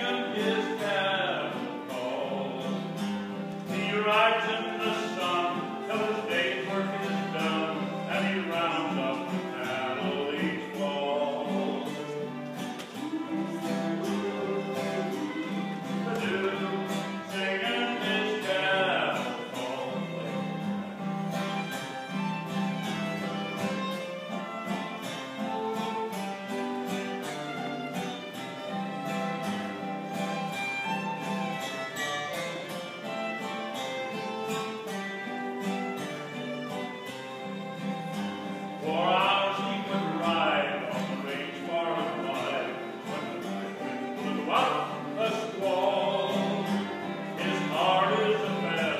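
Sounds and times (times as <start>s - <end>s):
acoustic guitar strumming: 0.0s - 48.9s
fiddle playing melody: 0.0s - 48.9s.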